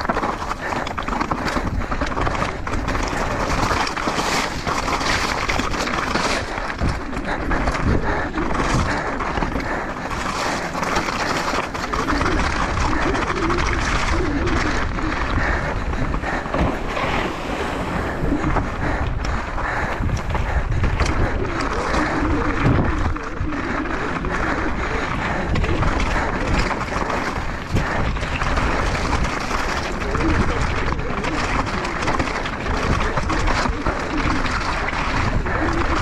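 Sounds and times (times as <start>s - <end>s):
bike knocks and rattles: 0.0s - 36.0s
tyres crunching over gravel: 0.0s - 36.0s
wind on microphone: 0.0s - 36.0s.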